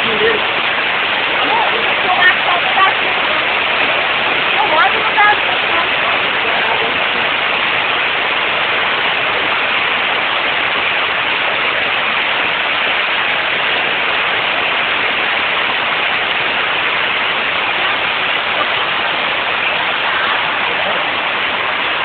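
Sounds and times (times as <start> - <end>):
water rushing down a street: 0.0 - 22.0.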